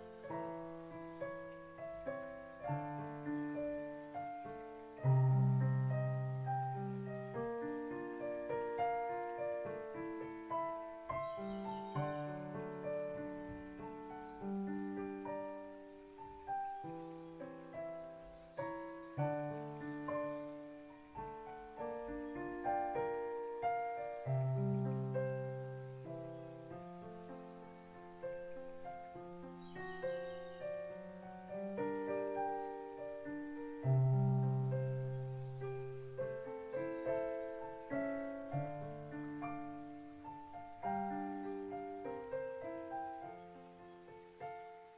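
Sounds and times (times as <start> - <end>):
solo piano: 0.0 - 44.9.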